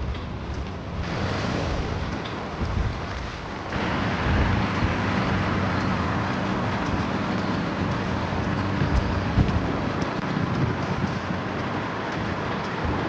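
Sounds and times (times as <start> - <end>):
low vehicle hum: 0.0 - 13.0
road noise: 0.0 - 13.0
wind buffeting microphone: 0.0 - 13.0.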